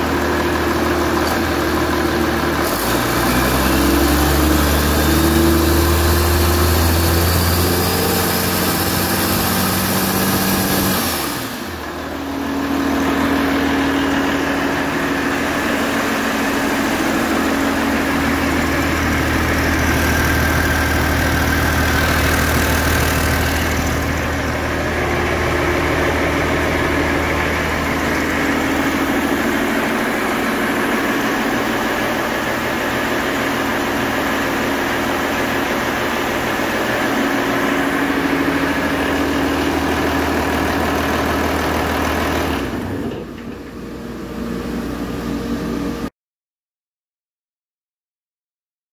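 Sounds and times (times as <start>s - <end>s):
diesel engine running: 0.0s - 46.1s.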